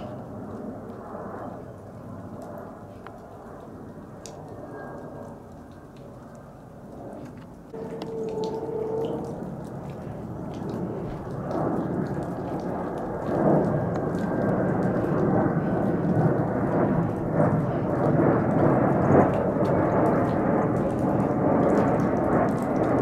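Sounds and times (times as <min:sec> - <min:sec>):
jet airliner roar overhead: 0:00.0 - 0:23.0.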